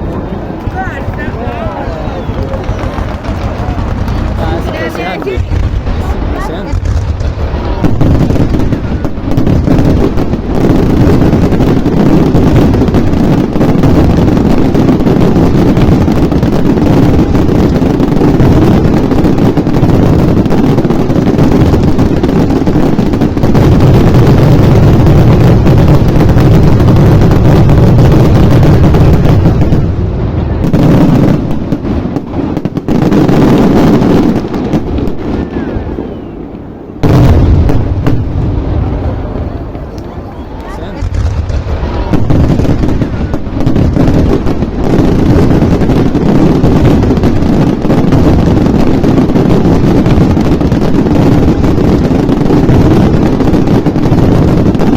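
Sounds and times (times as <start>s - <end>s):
fireworks bursts and booms: 0.0s - 54.9s.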